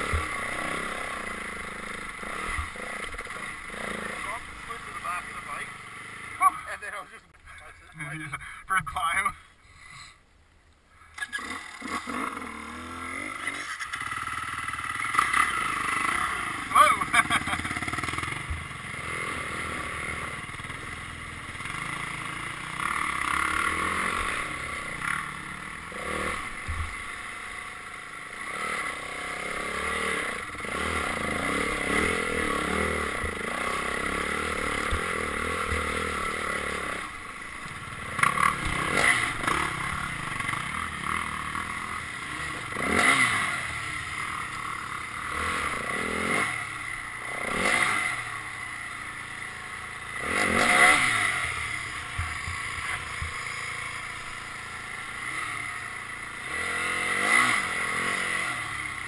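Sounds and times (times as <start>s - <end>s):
dirt bike engine revving: 0.0s - 7.1s, 11.2s - 59.0s.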